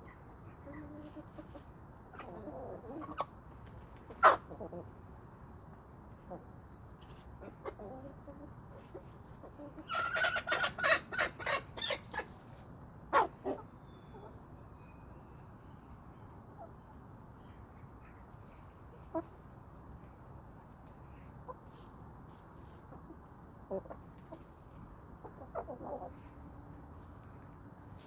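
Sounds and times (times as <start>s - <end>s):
chickens clucking and squawking: 0.0s - 5.2s, 6.1s - 14.5s, 16.5s - 19.6s, 21.2s - 27.3s.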